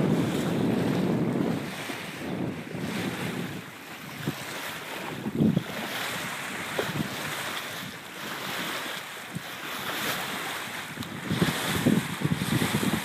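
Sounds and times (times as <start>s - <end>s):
water splashing along hull: 0.0s - 13.0s
wind buffeting microphone: 0.0s - 13.0s.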